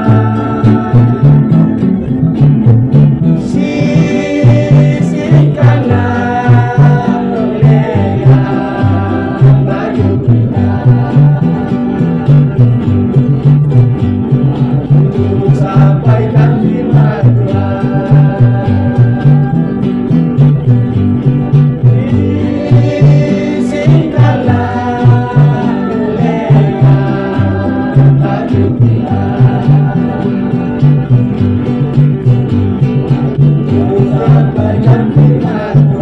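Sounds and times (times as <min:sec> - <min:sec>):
acoustic guitar: 0:00.0 - 0:36.0
gospel group singing: 0:00.0 - 0:36.0
low bass beat: 0:00.0 - 0:36.0.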